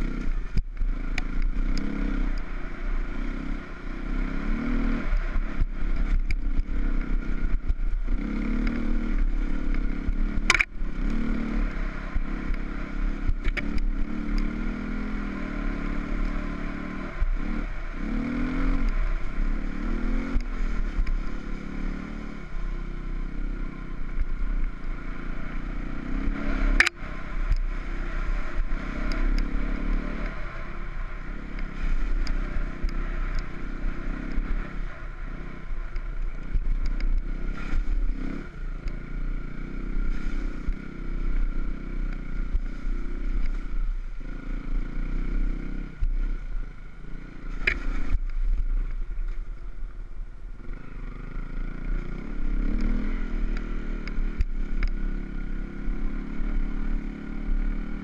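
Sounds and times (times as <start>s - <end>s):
motorcycle engine revving: 0.0s - 49.8s, 50.5s - 58.0s.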